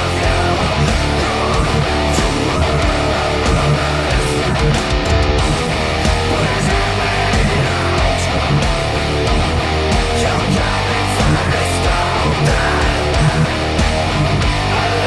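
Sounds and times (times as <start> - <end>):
distorted electric guitar riff: 0.0 - 15.0
drums: 0.0 - 15.0.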